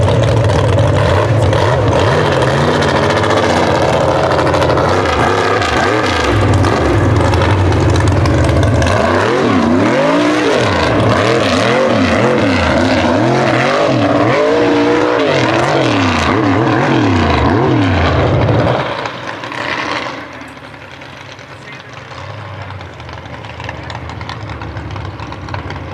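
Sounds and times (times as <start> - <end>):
truck engine revving: 0.0 - 25.9.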